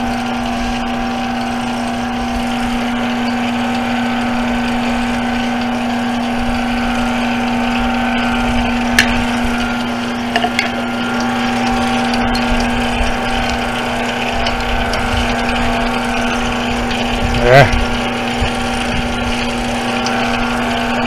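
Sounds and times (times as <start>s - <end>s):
metal lathe humming: 0.0s - 21.0s.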